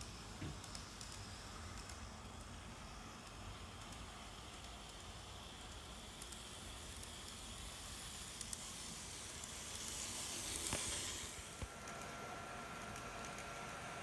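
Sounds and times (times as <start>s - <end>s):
model train whirring: 0.0s - 14.0s.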